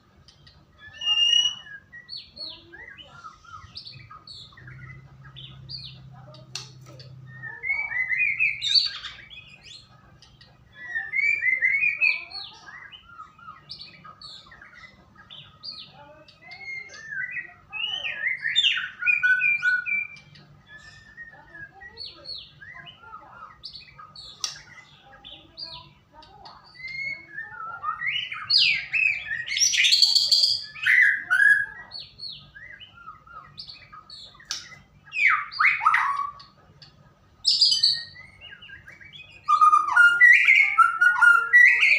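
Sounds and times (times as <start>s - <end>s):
rich warbled bird phrases: 0.0s - 41.9s
bird whistles and chirps: 0.8s - 6.0s, 7.2s - 9.9s, 10.7s - 24.9s, 26.6s - 36.5s, 37.4s - 41.9s.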